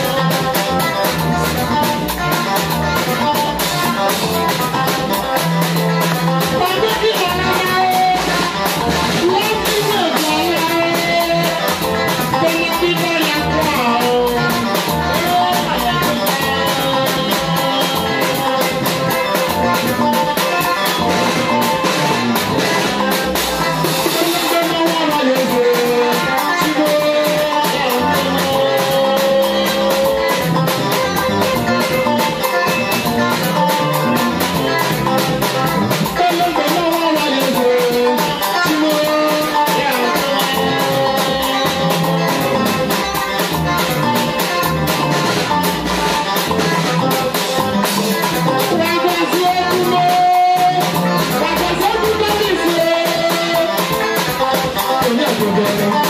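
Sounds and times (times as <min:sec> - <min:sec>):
bass guitar: 0:00.0 - 0:56.0
drum kit beat: 0:00.0 - 0:56.0
electric guitar: 0:00.0 - 0:56.0.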